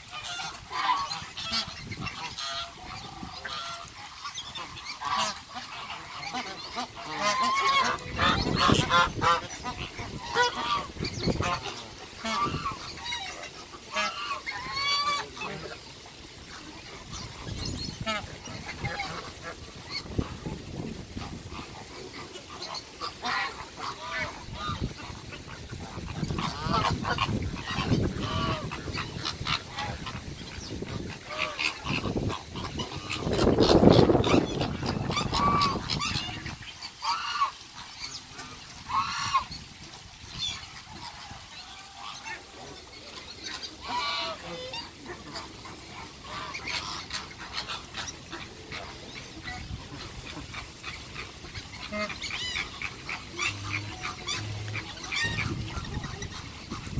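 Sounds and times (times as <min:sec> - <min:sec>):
geese honking: 0:00.0 - 0:39.6, 0:40.3 - 0:56.9
ducks quacking: 0:00.0 - 0:56.9.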